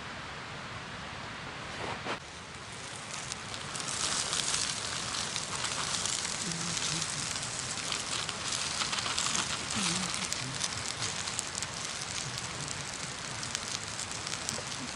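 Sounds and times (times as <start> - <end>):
campfire crackling and hissing: 1.7 - 14.9.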